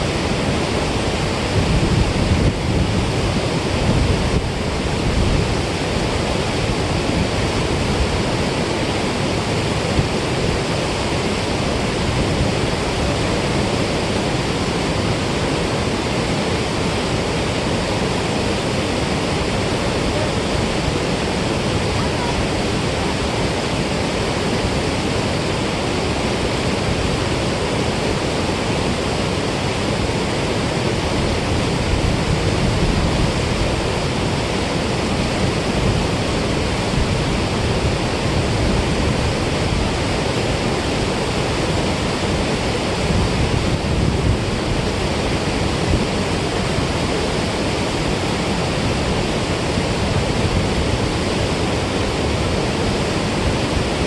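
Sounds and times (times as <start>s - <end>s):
water roaring through spillway: 0.0s - 54.0s.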